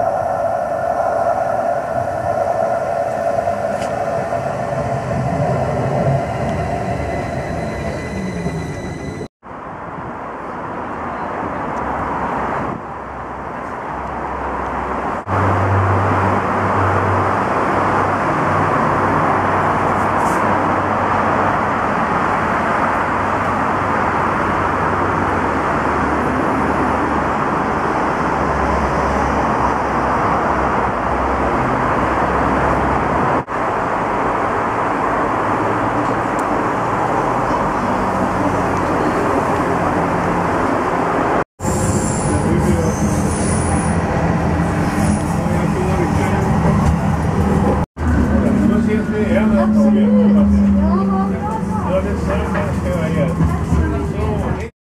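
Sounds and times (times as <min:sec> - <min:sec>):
tram wheels rumbling on rail: 0:00.0 - 0:54.7.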